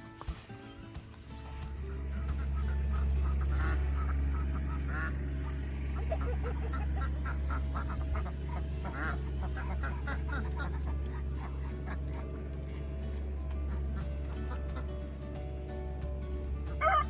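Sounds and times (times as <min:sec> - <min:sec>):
farm birds quacking and honking: 0:00.0 - 0:17.0
low hum: 0:00.0 - 0:17.0.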